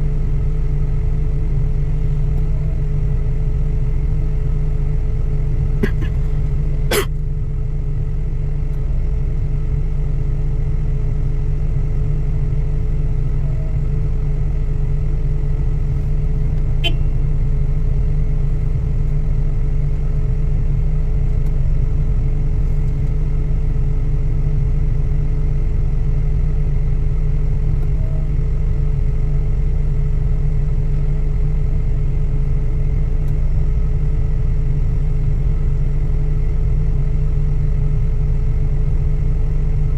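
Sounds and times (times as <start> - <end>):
heavy machine diesel engine rumbling: 0.0 - 39.9.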